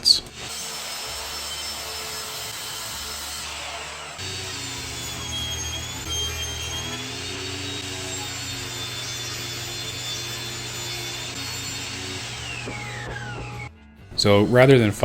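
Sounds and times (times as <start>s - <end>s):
power saw cutting plywood: 0.0s - 13.7s.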